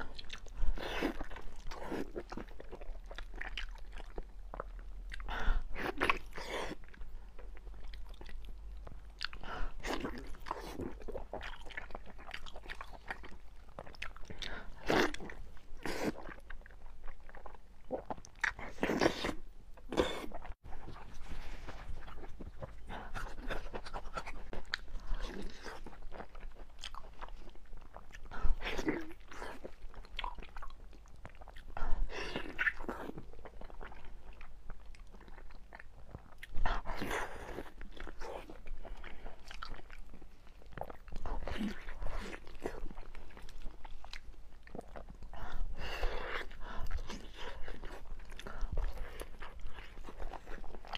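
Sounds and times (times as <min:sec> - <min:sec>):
wet chewing and crunching: 0:00.0 - 0:50.9.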